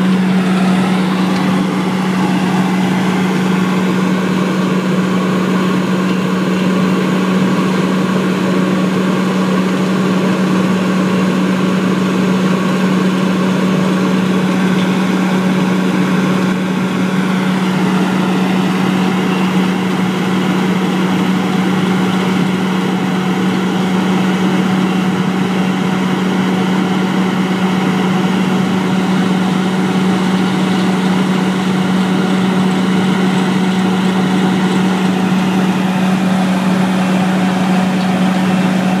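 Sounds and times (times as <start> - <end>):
machinery engine running: 0.0 - 39.0.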